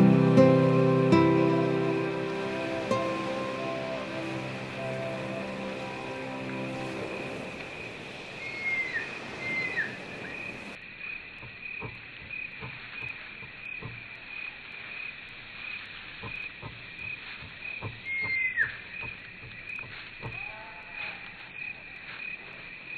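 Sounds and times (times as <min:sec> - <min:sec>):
steady high chirping insects or frogs: 0:00.0 - 0:22.9.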